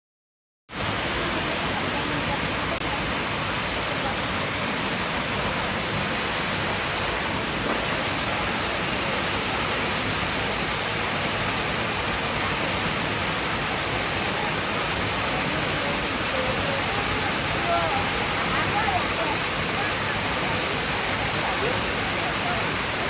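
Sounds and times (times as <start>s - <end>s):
waterfall rushing: 0.7s - 23.0s.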